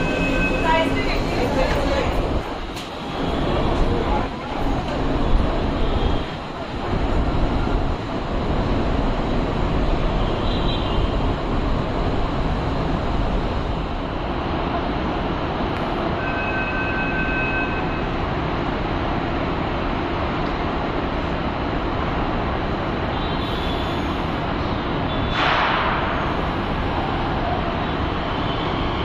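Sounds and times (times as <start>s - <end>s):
train rail rumble: 0.0s - 29.0s.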